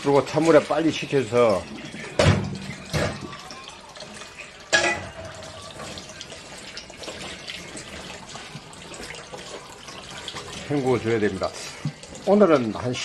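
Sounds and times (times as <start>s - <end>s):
tap water running into basin: 0.0s - 13.0s.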